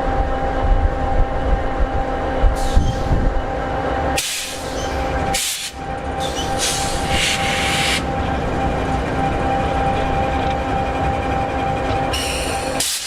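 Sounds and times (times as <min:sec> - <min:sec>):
diesel locomotive idling: 0:00.0 - 0:13.0.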